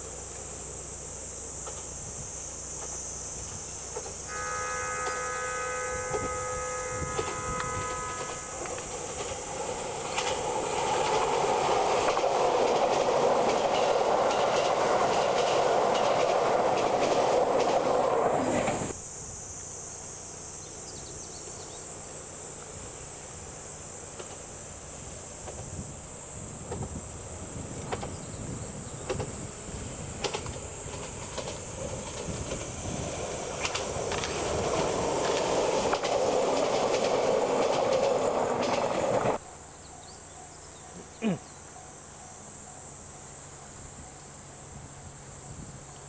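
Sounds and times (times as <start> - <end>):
insects buzzing trill: 0.0 - 46.0
train rumble: 2.8 - 19.0, 22.6 - 46.0.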